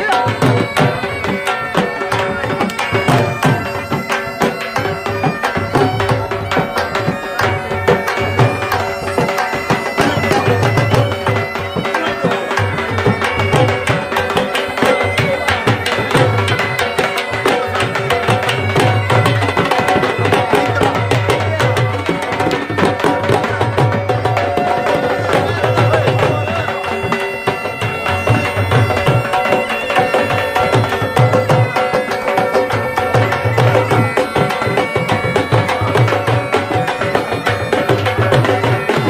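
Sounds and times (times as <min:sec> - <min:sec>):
dhol drum beating: 0:00.0 - 0:39.0
wind instrument held tones: 0:00.1 - 0:39.0.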